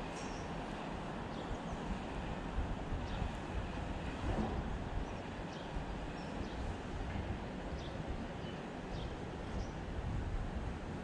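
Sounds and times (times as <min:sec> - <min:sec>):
wind buffeting microphone: 0:01.7 - 0:11.0.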